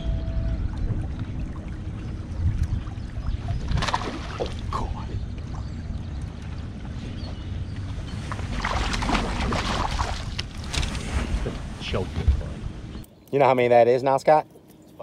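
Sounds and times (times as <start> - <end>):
steady low rumble: 0.0 - 13.1.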